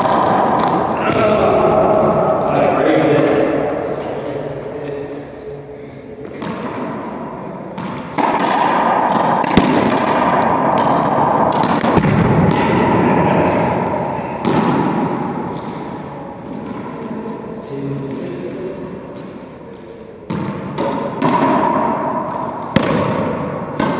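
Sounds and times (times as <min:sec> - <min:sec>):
racquetball hits echoing: 0:00.0 - 0:05.2, 0:06.2 - 0:17.6, 0:20.2 - 0:23.9.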